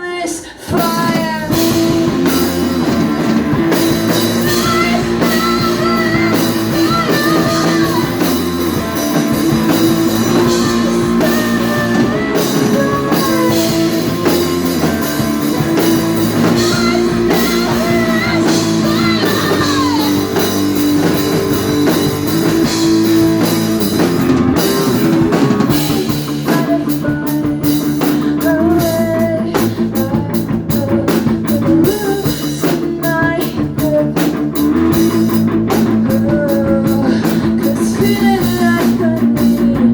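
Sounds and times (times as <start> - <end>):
drums in tight pattern: 0.0 - 39.9
person singing: 0.0 - 39.9
rock band playing live: 0.6 - 39.9.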